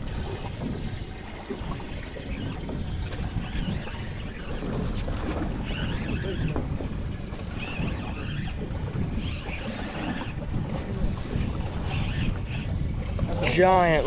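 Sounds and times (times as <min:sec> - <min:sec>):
water washing against boat hull: 0:00.0 - 0:14.0
wind rumbling on microphone: 0:00.0 - 0:14.0.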